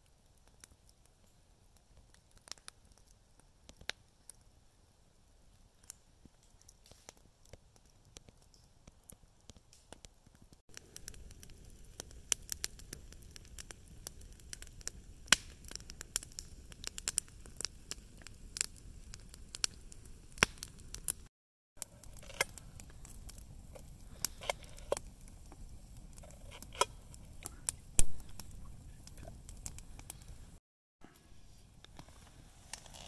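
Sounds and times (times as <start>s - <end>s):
campfire crackling: 0.0s - 30.6s, 31.4s - 33.0s.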